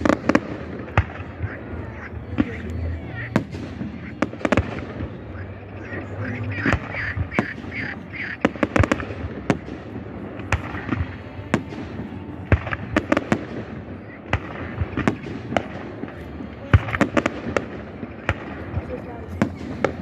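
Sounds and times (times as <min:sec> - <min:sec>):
fireworks bangs: 0:00.0 - 0:20.0
rattling firework reports: 0:00.0 - 0:20.0.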